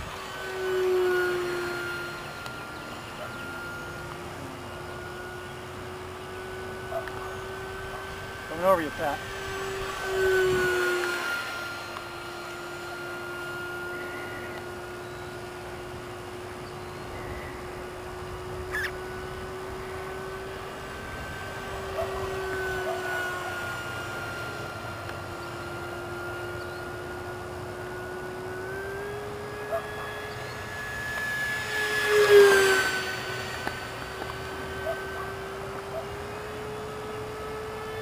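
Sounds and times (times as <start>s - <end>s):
model jet electric motor whining: 0.0s - 38.0s.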